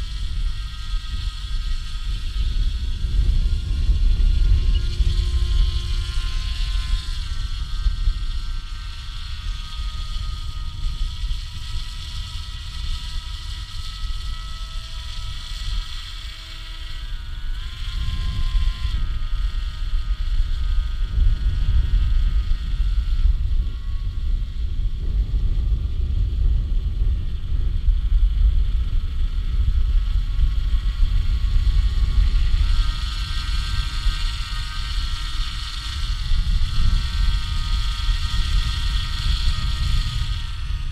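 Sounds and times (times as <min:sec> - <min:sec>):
model aircraft motor droning: 0:00.0 - 0:40.9
wind buffeting microphone: 0:00.0 - 0:40.9.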